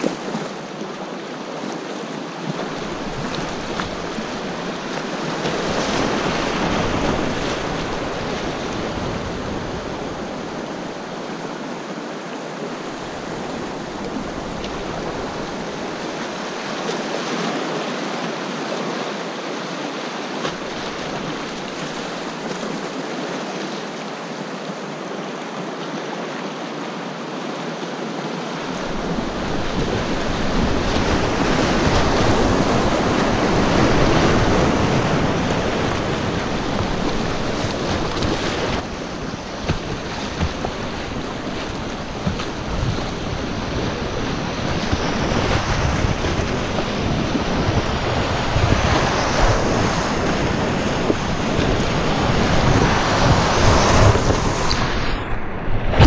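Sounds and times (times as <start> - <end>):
river rapids rushing and splashing: 0.0 - 56.0.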